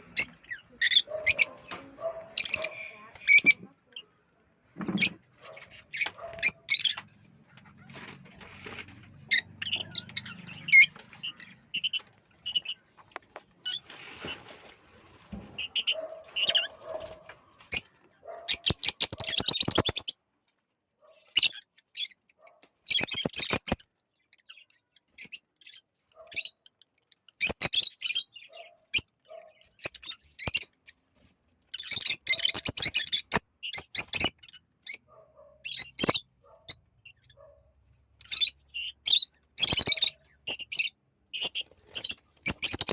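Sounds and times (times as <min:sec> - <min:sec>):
parakeets clicking chatter: 0:00.0 - 0:04.1, 0:04.8 - 0:13.8, 0:15.5 - 0:20.2, 0:21.2 - 0:31.0, 0:31.8 - 0:37.5, 0:38.2 - 0:42.9
parakeets chirping and squeaking: 0:00.0 - 0:20.2, 0:21.2 - 0:42.9.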